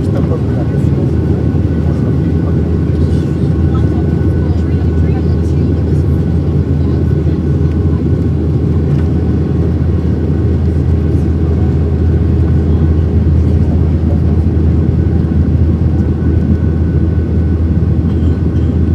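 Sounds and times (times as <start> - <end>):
jet engine cabin rumble: 0.0 - 18.9.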